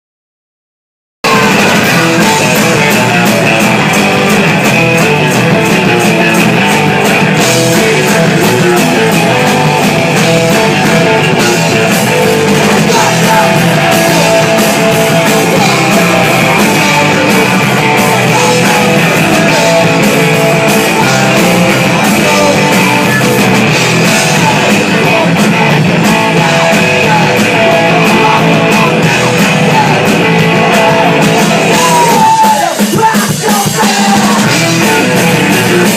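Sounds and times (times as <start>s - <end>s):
rock band playing live: 1.2s - 35.9s.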